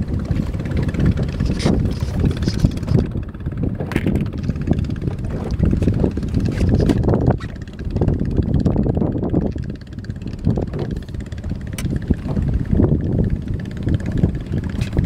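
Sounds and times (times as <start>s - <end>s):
waves washing around boat: 0.0s - 15.0s
wind buffeting microphone: 0.0s - 15.0s.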